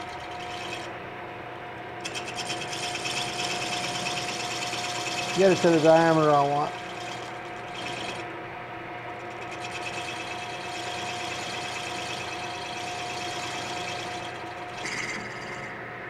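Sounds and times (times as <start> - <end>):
lathe whining: 0.0 - 1.1, 1.7 - 15.8.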